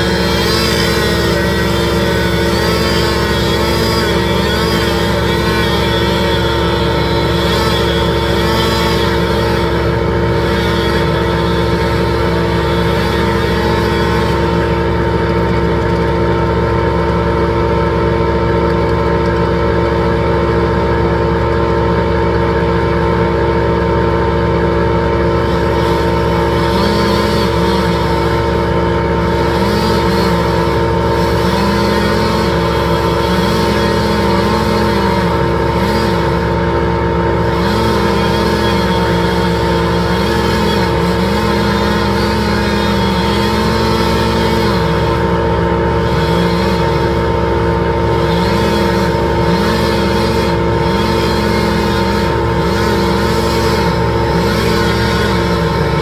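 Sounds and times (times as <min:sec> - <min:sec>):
large engine droning: 0:00.0 - 0:56.0.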